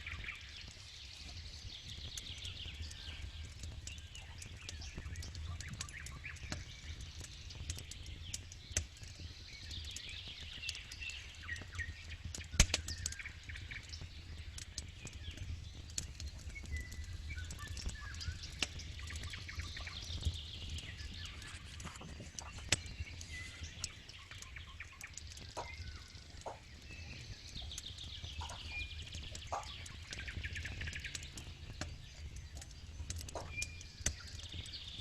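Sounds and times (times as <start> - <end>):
birds chirping and singing: 0.0 - 35.0
campfire crackling and popping: 0.0 - 35.0.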